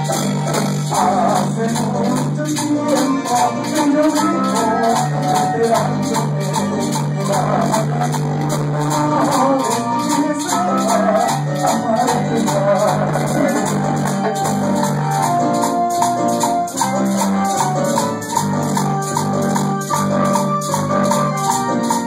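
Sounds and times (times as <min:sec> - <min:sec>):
driving percussion rhythm: 0:00.0 - 0:22.0
electronic keyboard melody: 0:00.0 - 0:22.0
repeating bass line: 0:00.0 - 0:22.0.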